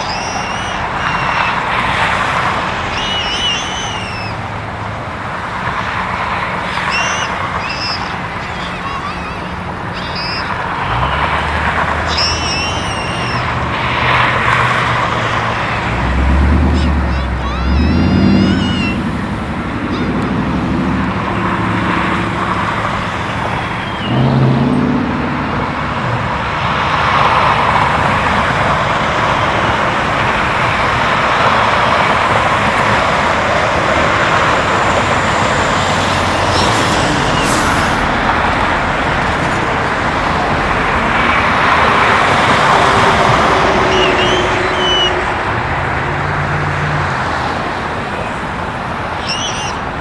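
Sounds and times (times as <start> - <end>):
freeway traffic rushing: 0.0 - 50.0
low engine hum: 0.0 - 50.0.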